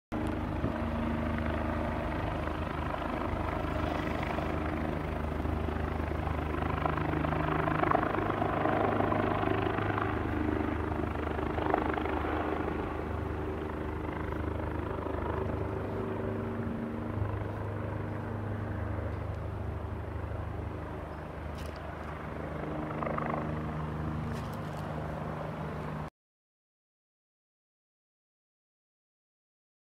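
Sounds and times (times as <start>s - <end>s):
helicopter passing low overhead: 0.1s - 26.1s.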